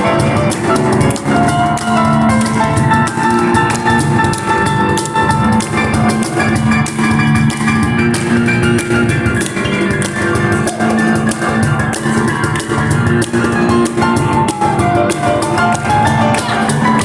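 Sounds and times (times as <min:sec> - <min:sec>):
cajon beat: 0:00.0 - 0:17.0
piano chords and melody: 0:00.0 - 0:17.0.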